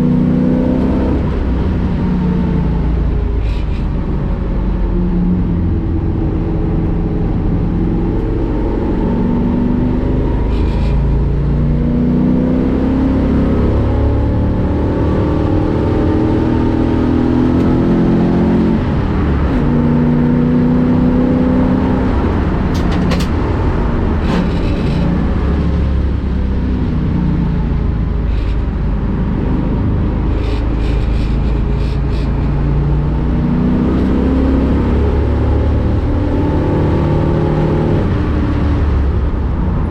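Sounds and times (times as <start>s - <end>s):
race car engine accelerating: 4.5s - 39.9s.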